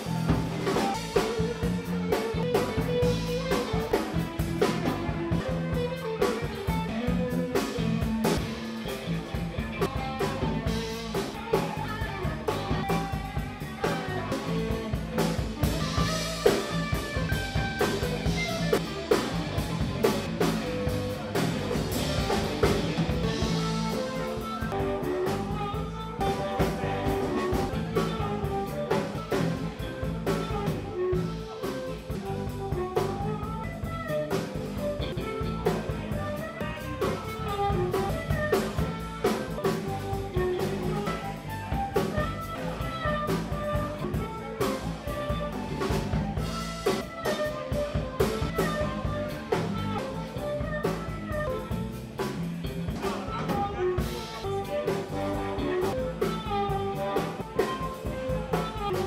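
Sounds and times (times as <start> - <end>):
blues band playing: 0.0 - 59.0.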